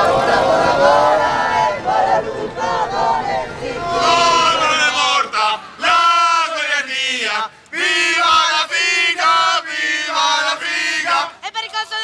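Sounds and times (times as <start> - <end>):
young men chanting: 0.0 - 11.4.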